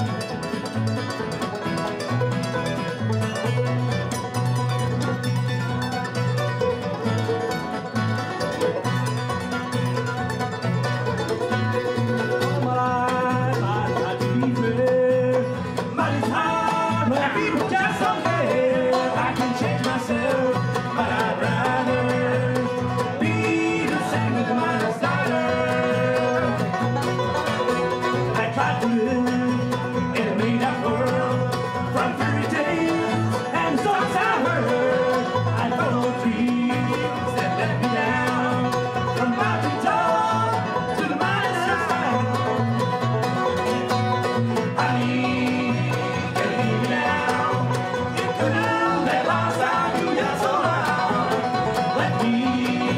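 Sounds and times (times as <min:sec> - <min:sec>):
acoustic guitar: 0:00.0 - 0:52.9
banjo: 0:00.0 - 0:52.9
mandolin: 0:00.0 - 0:52.9
upright bass: 0:00.0 - 0:52.9.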